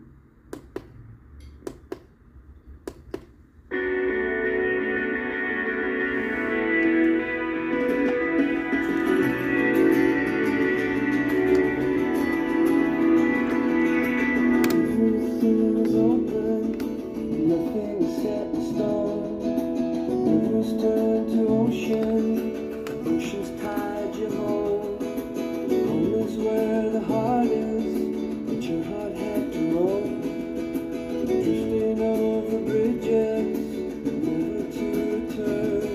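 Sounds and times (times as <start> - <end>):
acoustic guitar music: 3.7 - 35.9.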